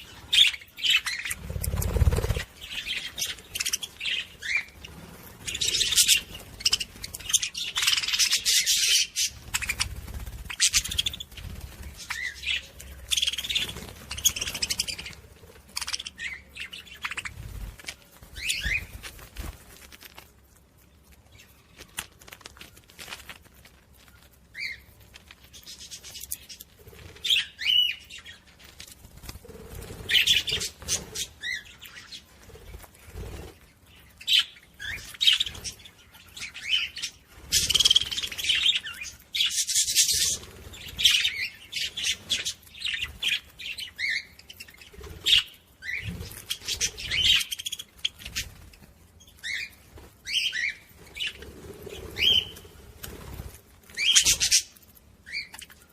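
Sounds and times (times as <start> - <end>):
parrots chirping and chattering: 0.0 - 55.9.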